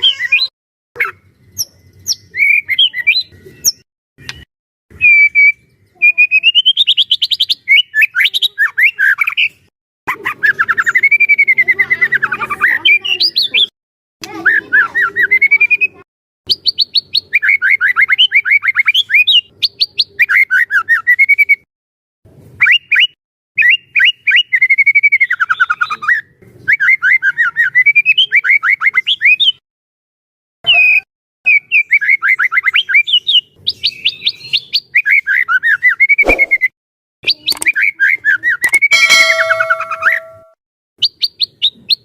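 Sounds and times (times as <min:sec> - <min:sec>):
songbird whistling song: 0:00.1 - 0:09.6, 0:10.2 - 0:13.7, 0:14.5 - 0:21.6, 0:22.6 - 0:29.6, 0:30.7 - 0:42.0.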